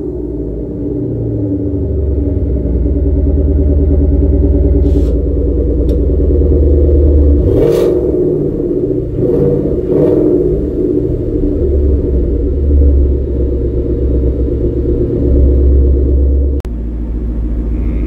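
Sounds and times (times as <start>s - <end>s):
car exhaust idling: 0.0s - 18.0s
engine revving: 0.0s - 18.0s.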